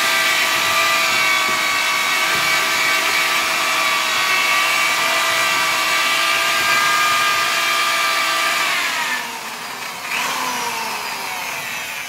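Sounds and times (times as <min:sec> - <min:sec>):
electric drill mixer whining: 0:00.0 - 0:12.0.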